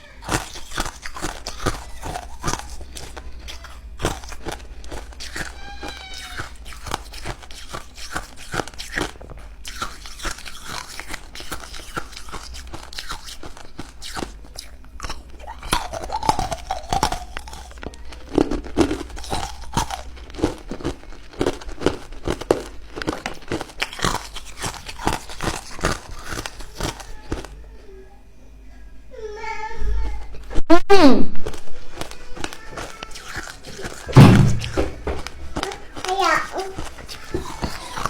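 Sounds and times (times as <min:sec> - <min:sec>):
ice cubes crunching in mouth: 0:00.0 - 0:27.6, 0:31.5 - 0:38.0.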